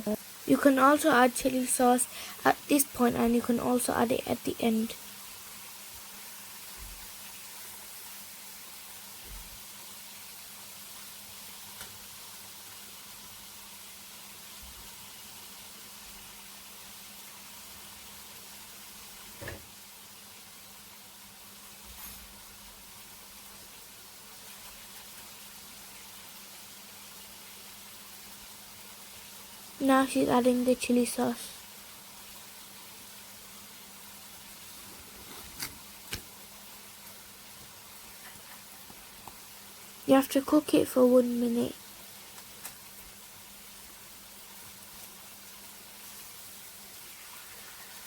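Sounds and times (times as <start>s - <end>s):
chicken sizzling in a frying pan: 0.0s - 48.0s.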